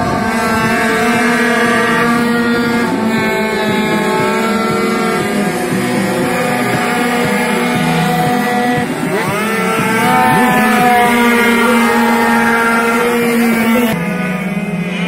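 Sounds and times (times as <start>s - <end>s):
two-stroke motorcycles revving: 0.0s - 15.0s.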